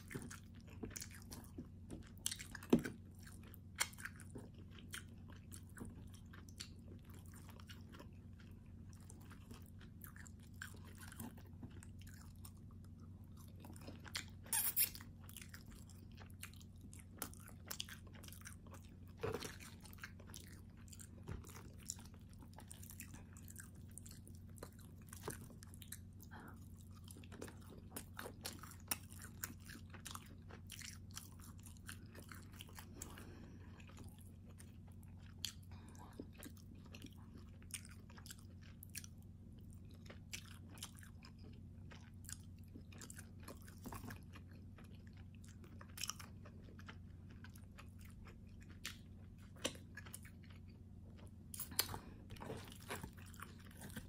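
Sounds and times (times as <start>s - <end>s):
person chewing: 0.0s - 54.0s
steady low hum: 0.0s - 54.0s.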